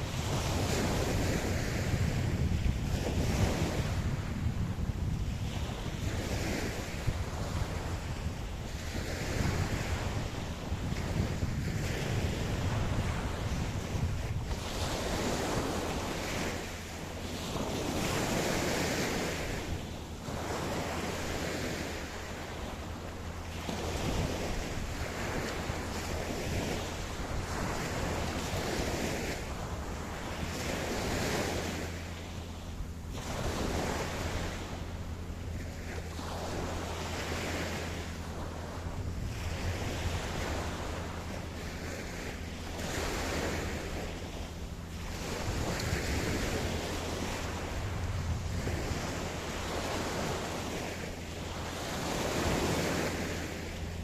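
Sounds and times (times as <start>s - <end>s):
low rumble of wind: 0.0s - 54.0s
ocean surf breaking on beach: 0.0s - 54.0s.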